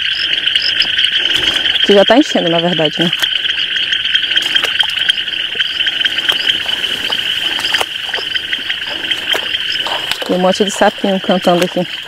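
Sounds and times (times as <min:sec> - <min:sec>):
chorus of small frogs trilling: 0:00.0 - 0:12.0.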